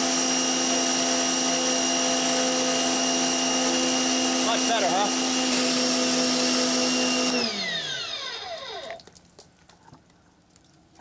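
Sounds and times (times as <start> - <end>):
pressure washer motor running: 0.0 - 9.0.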